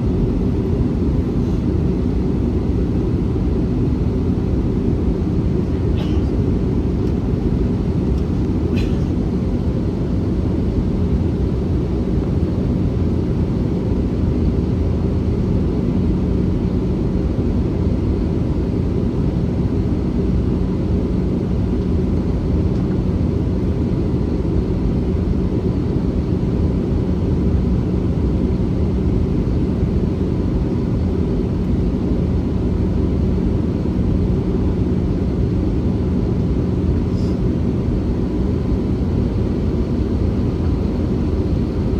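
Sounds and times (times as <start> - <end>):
constant hum: 0.0 - 41.9
jet engine cabin drone: 0.0 - 41.9.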